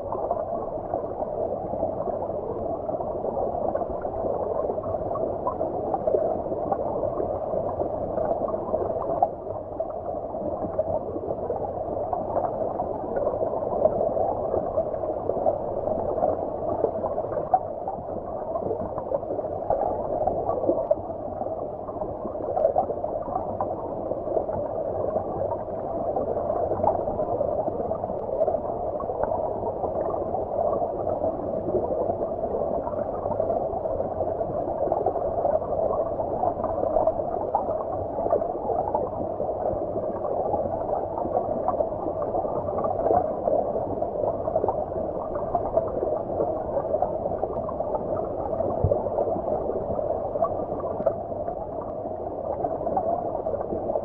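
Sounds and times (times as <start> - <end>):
muffled underwater gurgling: 0.0 - 54.0.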